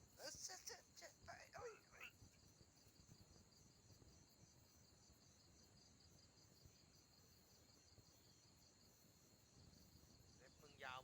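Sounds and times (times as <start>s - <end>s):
background hiss: 0.0s - 11.0s
insects chirping: 0.0s - 11.0s.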